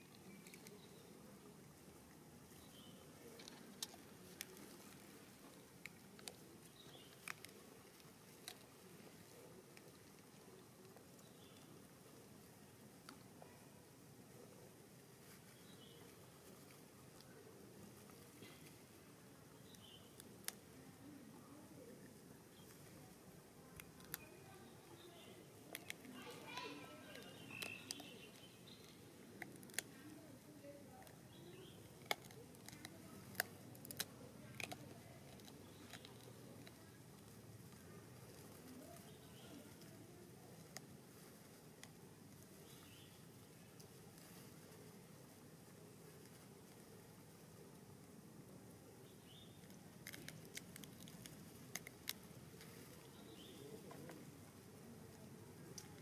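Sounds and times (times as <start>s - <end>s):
faint clicks and crackles of food: 0.0s - 56.0s.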